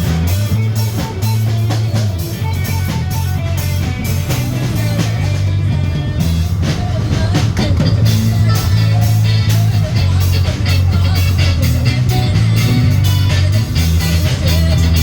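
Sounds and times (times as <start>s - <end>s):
drum kit beat: 0.0s - 15.0s
rock band playing: 0.0s - 15.0s.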